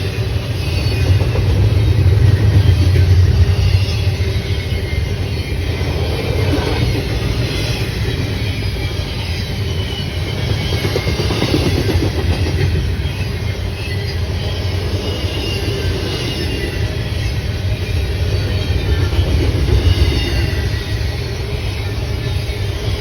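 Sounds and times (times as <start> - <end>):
train rumbling on track: 0.0 - 23.0
wheels squealing: 0.0 - 23.0.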